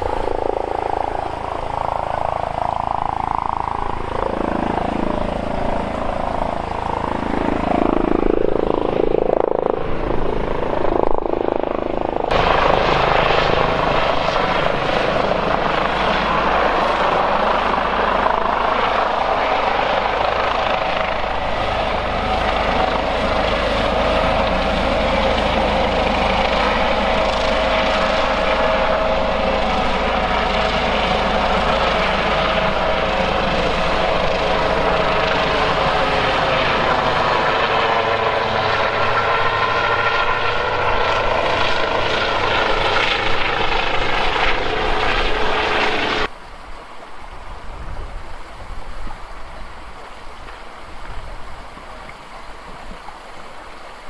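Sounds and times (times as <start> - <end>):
helicopter hovering: 0.0 - 46.4.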